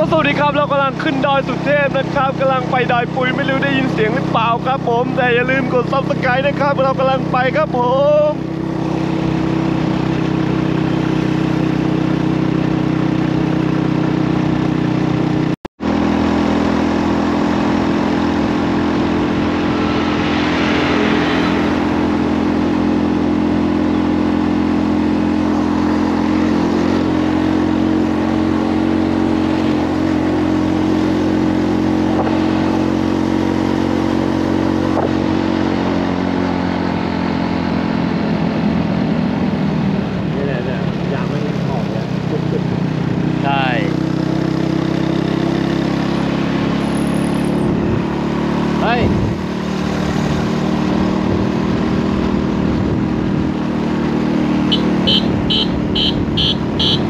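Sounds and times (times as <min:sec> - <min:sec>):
motorcycle engine running under load: 0:00.0 - 0:57.0.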